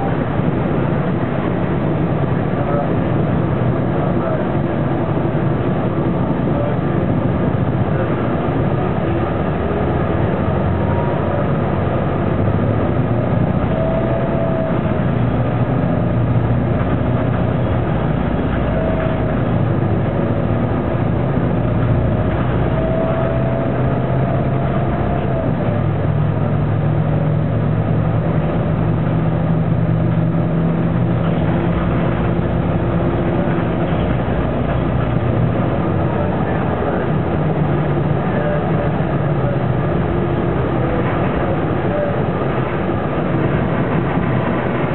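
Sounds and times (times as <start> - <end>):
bus diesel engine running: 0.0 - 44.9
faint whine: 0.0 - 44.9.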